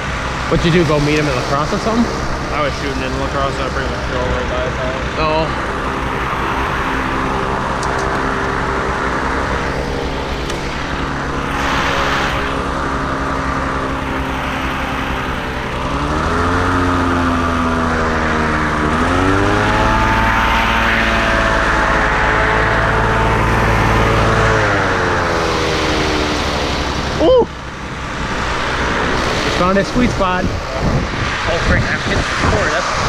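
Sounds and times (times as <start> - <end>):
boat engine running: 0.0 - 31.6.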